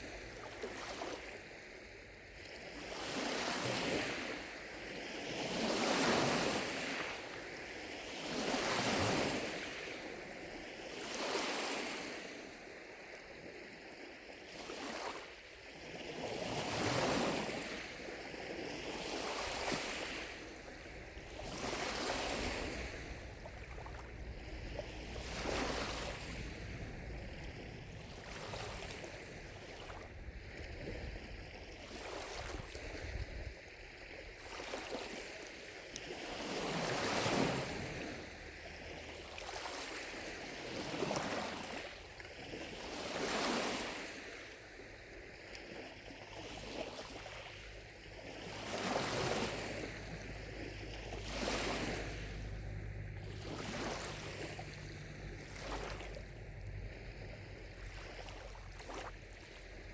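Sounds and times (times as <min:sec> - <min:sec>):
lake waves lapping on shore: 0:00.0 - 0:59.9.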